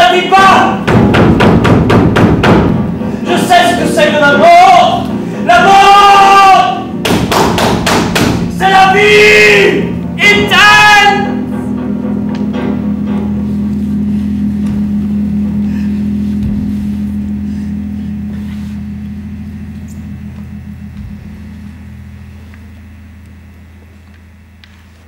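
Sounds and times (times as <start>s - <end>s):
bass guitar low drone: 0.7s - 25.0s.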